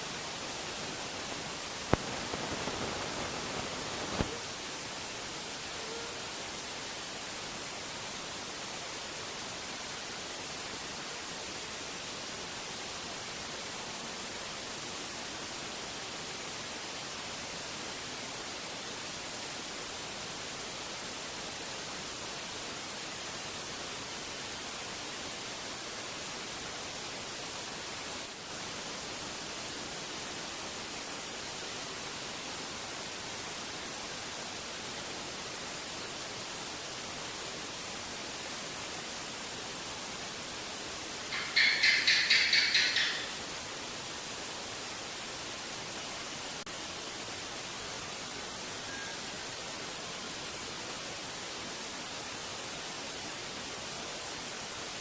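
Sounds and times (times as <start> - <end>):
steady static hiss: 0.0 - 55.0.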